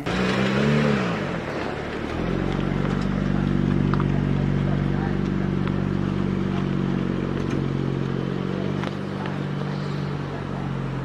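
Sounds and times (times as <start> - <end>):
car exhaust low drone: 0.0 - 11.0.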